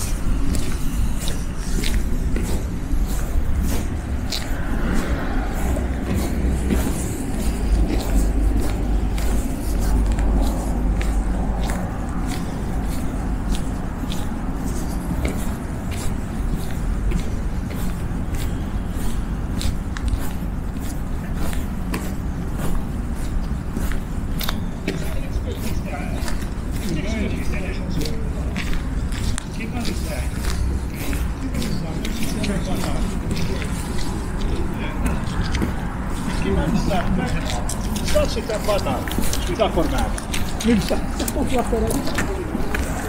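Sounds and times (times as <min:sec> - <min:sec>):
footsteps in snow: 0:00.0 - 0:43.0
road traffic rumble: 0:00.0 - 0:43.0.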